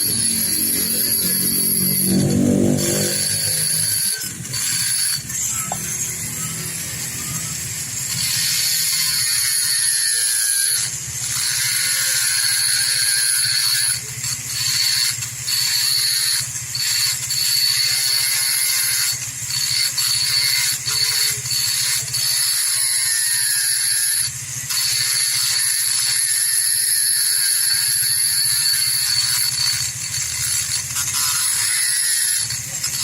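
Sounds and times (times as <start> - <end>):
power tool whining: 0.0 - 33.0.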